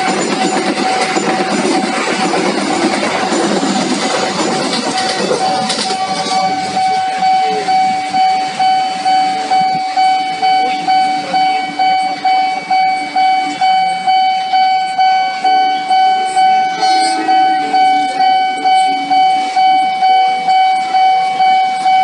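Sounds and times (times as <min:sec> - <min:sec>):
level crossing warning bell ringing: 0:00.0 - 0:22.0
passenger train rumbling: 0:00.0 - 0:22.0.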